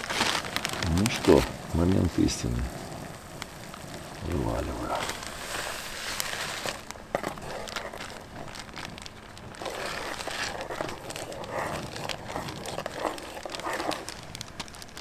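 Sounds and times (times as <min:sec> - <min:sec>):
bag crinkling and rustling: 0:00.0 - 0:15.0.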